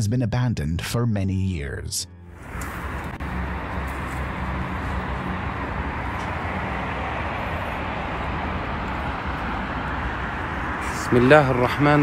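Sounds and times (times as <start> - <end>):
car driving: 2.2 - 12.0.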